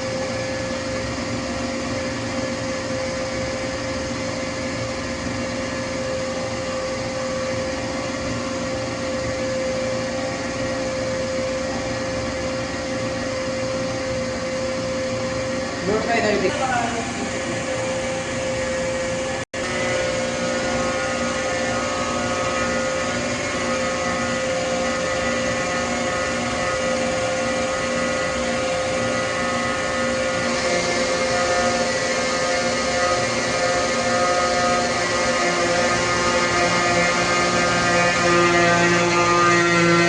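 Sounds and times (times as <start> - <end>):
hydraulic pump whining: 0.0 - 40.0.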